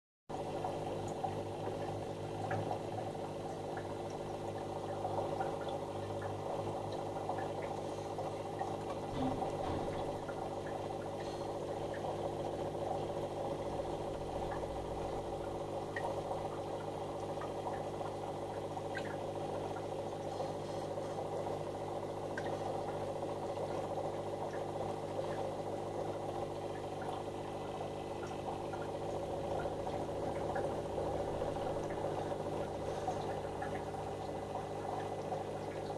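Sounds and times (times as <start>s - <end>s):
aquarium equipment hum: 0.3s - 35.9s
moving water: 0.3s - 35.9s.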